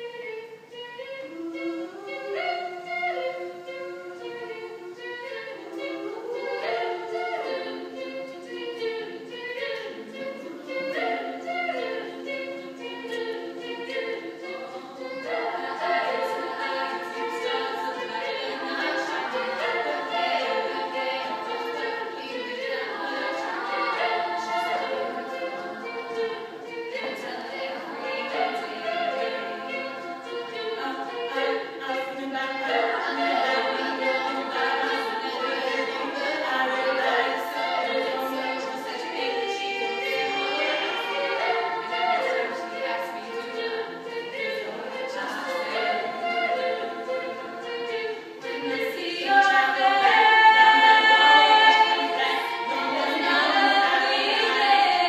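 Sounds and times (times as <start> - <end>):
female choir singing a cappella: 0.0 - 55.0.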